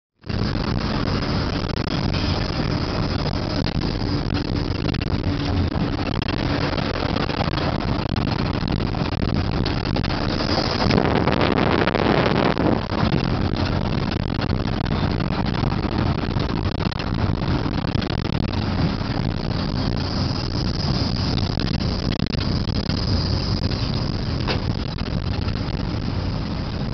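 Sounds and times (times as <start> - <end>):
loud rushing: 0.2 - 26.9
vehicle engine and road noise: 0.2 - 26.9.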